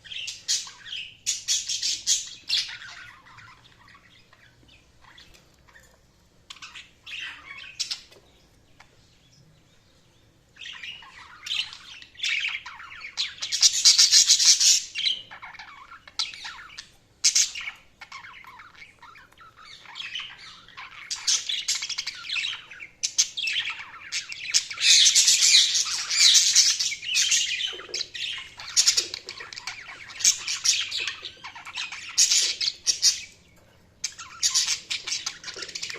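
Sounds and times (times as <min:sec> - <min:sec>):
budgerigars chirping and chattering: 0:00.0 - 0:35.9.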